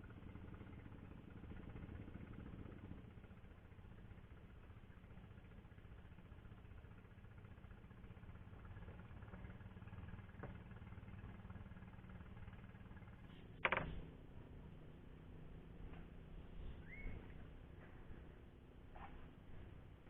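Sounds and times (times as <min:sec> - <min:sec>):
faint engine humming: 0:00.0 - 0:20.0.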